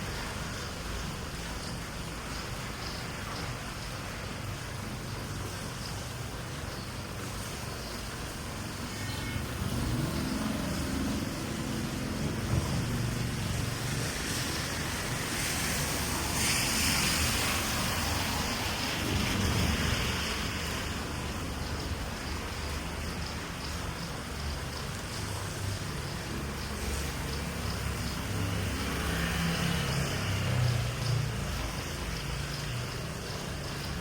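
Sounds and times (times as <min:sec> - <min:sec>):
rain on a street: 0:00.0 - 0:34.0
vehicles passing on wet road: 0:00.0 - 0:34.0.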